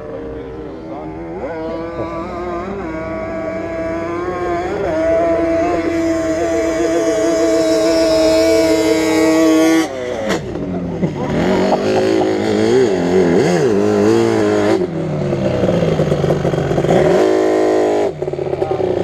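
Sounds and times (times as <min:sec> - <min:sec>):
quad engines revving: 0:00.0 - 0:19.0.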